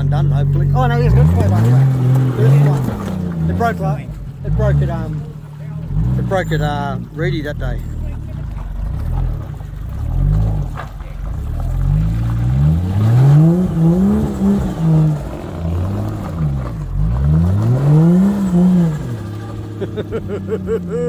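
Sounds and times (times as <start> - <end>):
engine revving hard: 0.0 - 21.0.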